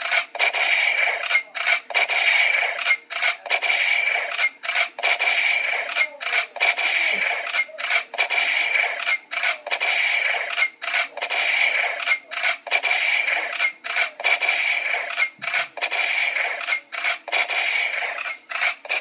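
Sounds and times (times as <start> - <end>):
toy gun electronic rattling: 0.0 - 19.0.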